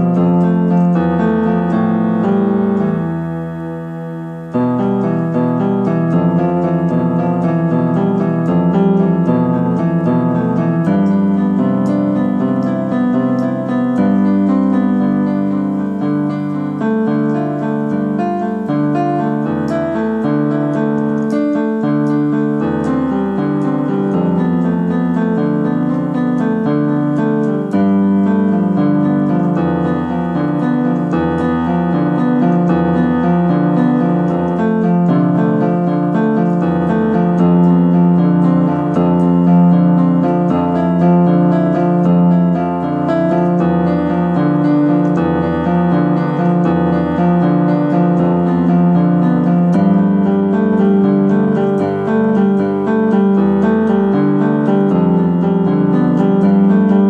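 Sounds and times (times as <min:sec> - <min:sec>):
slow piano chords: 0:00.0 - 0:57.0.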